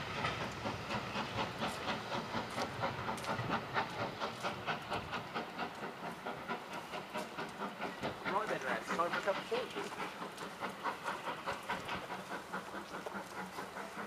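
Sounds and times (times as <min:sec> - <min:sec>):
steam hissing: 0:00.0 - 0:14.0
steam locomotive chuffing: 0:00.0 - 0:14.0
train carriages rumbling: 0:00.0 - 0:14.0.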